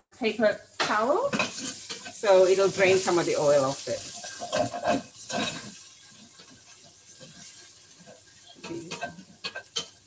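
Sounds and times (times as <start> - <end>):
onions sizzling in a pan: 0.2 - 10.0.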